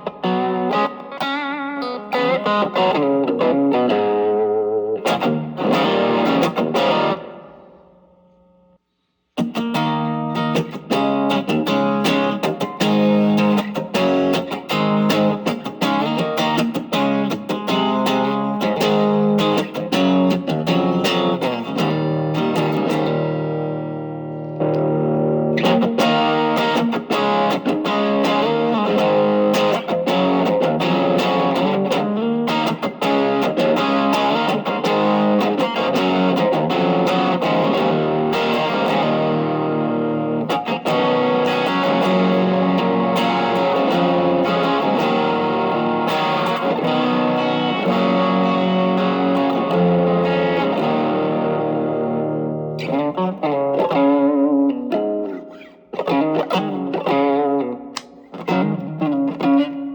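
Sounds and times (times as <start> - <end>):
overdriven electric guitar: 0.0 - 59.9.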